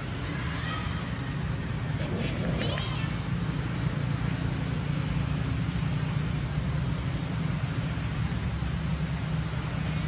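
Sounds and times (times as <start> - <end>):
low outdoor background noise: 0.0 - 10.0.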